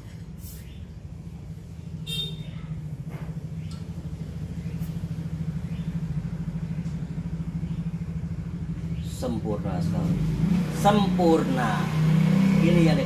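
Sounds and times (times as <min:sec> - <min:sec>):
low mechanical motor hum: 0:00.0 - 0:13.0.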